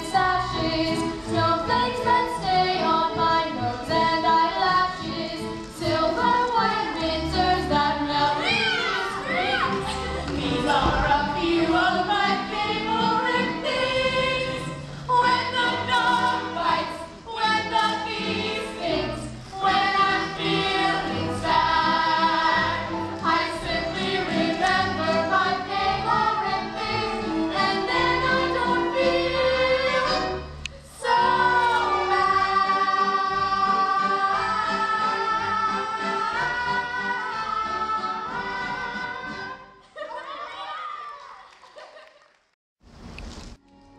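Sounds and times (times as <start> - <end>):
group of young people singing: 0.0 - 30.3, 30.9 - 39.6.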